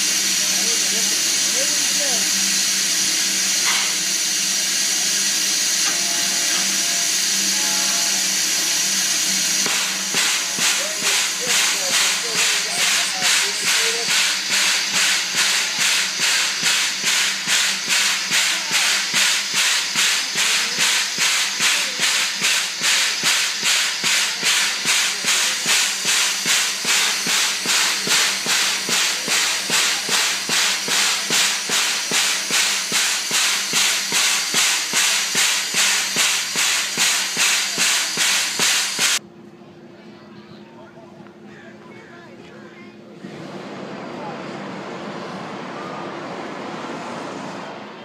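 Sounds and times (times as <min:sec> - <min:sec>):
steam locomotive chuffing: 0:00.0 - 0:39.2.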